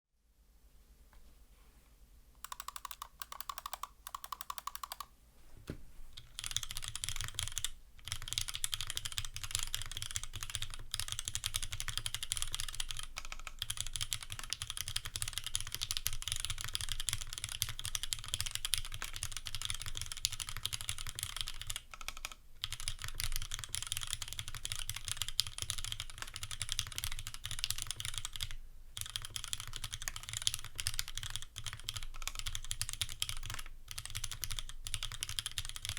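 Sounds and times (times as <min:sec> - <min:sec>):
mechanical keyboard typing: 0:02.4 - 0:05.1, 0:06.2 - 0:35.9.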